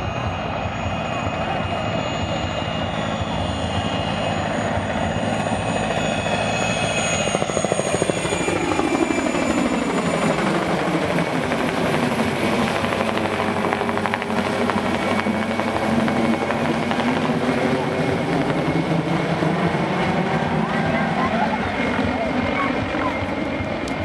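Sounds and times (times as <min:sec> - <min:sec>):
helicopter rotor beating: 0:00.0 - 0:24.0
turbine whine: 0:00.0 - 0:24.0.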